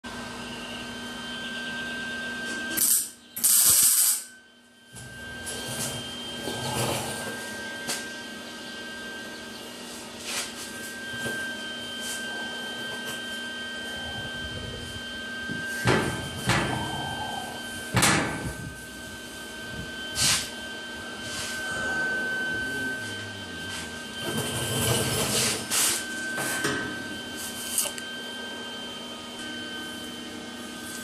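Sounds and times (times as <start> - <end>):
steady hum with high whine: 0.1 - 31.0.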